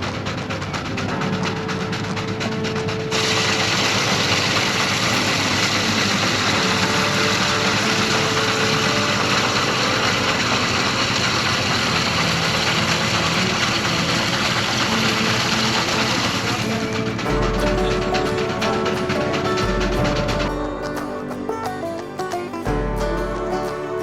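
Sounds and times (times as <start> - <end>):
engine running: 0.0 - 24.0
noisy hiss: 0.0 - 24.0.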